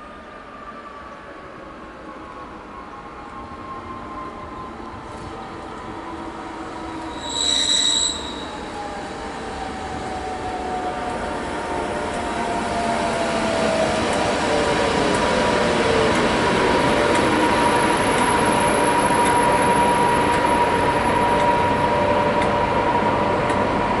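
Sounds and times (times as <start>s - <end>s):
train wheels rumbling on rail: 0.5s - 24.0s.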